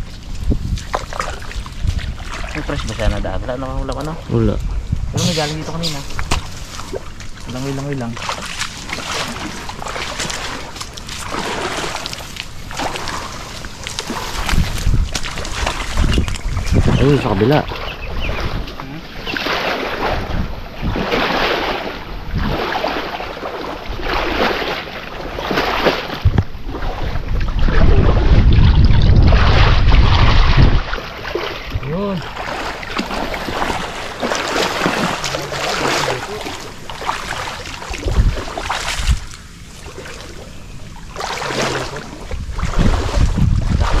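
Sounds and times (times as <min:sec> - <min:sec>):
wind rumble on microphone: 0:00.0 - 0:08.2, 0:09.1 - 0:34.2, 0:37.2 - 0:39.8, 0:40.5 - 0:44.0
branches and leaves rustling: 0:00.0 - 0:27.4, 0:28.5 - 0:44.0
wading through muddy water: 0:00.0 - 0:44.0.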